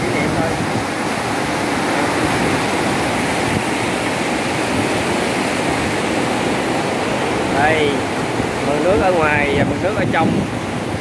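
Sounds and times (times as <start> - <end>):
water rushing and churning: 0.0 - 11.0.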